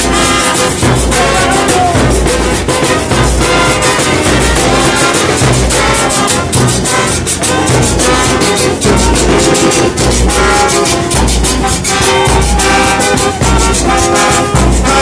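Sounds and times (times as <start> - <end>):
brass instruments playing: 0.0 - 15.0
drums with steady beat: 0.0 - 15.0.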